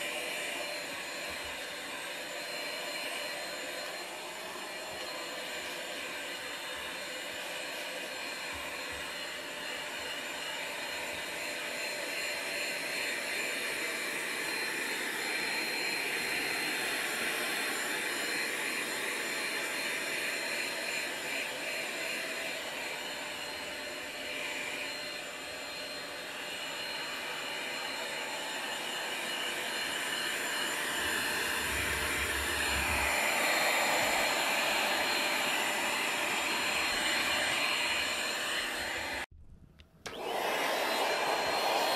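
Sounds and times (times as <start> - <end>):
handheld vacuum cleaner running: 0.0 - 39.3, 40.0 - 41.9.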